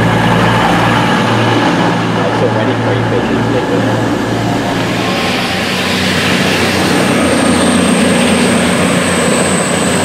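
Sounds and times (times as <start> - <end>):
train diesel engines humming: 0.0 - 10.0
train wheel noise: 0.0 - 10.0.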